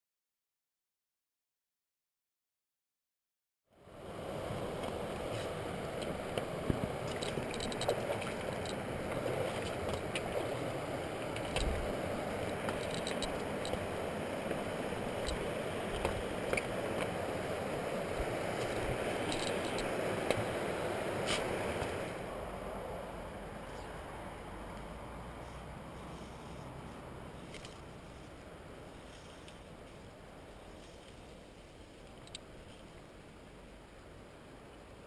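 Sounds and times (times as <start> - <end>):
river water rushing: 3.8 - 35.0.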